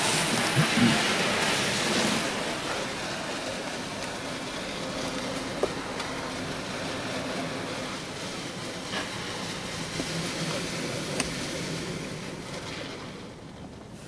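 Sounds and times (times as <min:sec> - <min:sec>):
car wash machinery and spray hiss: 0:00.0 - 0:14.0.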